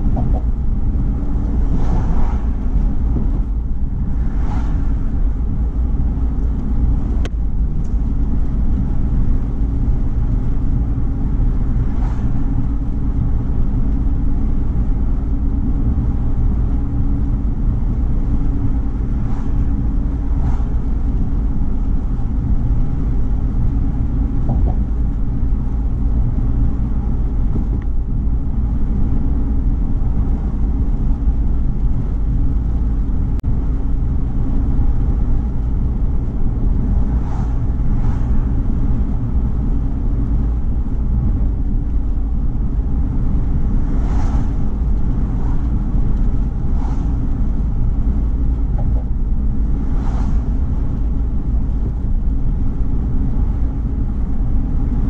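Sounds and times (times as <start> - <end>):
car road and wind rumble: 0.0 - 55.0.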